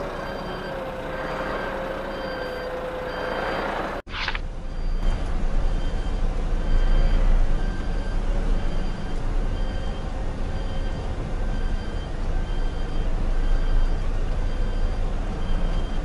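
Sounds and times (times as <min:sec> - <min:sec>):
faint reversing alarm beeps: 0:00.0 - 0:03.8, 0:04.6 - 0:16.0
diesel truck engine rumbling: 0:00.0 - 0:16.0.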